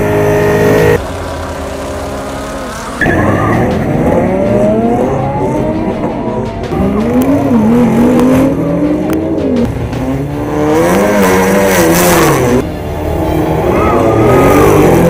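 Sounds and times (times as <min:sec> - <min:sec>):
car engines accelerating hard: 0:00.0 - 0:15.0.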